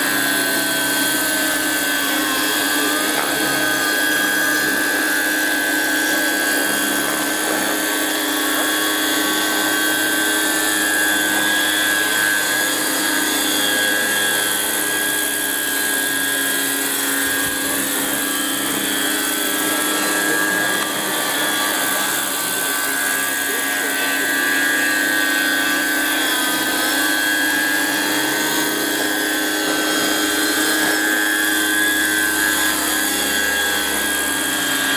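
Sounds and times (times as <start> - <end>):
high motor whine: 0.0 - 34.9
rotors whirring: 0.0 - 34.9.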